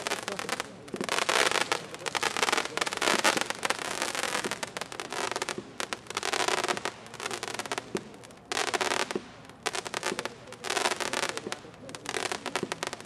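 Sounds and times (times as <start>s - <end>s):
firework crackling pops: 0.0s - 13.0s.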